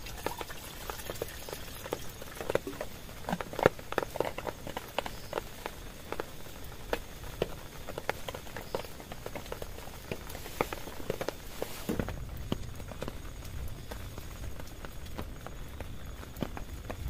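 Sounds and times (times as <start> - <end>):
faint hiss of rain: 0.0 - 17.0
raindrops tapping on a tent: 0.0 - 17.0.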